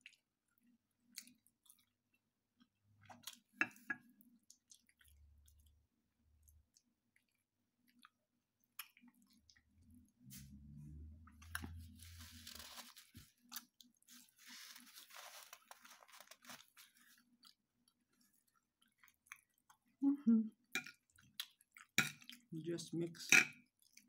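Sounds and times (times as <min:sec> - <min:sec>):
chewing and crunching food: 0:00.0 - 0:10.6, 0:11.2 - 0:24.0.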